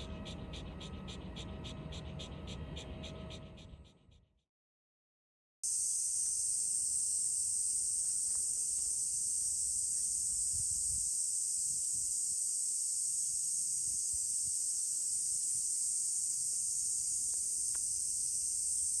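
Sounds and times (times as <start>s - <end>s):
cicadas droning: 0.0s - 4.0s, 5.6s - 19.0s.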